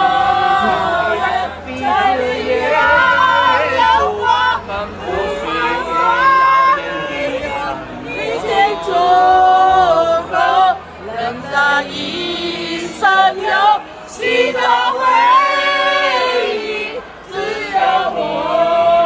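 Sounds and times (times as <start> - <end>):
group of men and women singing: 0.0 - 19.0.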